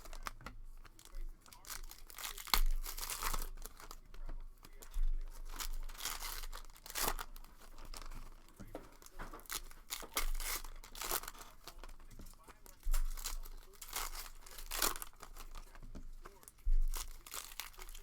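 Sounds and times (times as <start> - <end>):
wrapping crinkling and ripping: 0.0 - 18.0.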